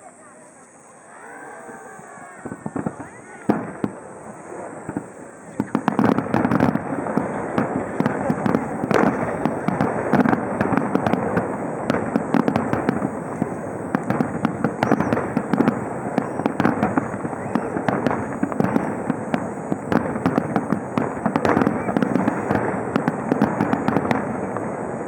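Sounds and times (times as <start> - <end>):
fireworks bursts and cracks: 1.7 - 25.0.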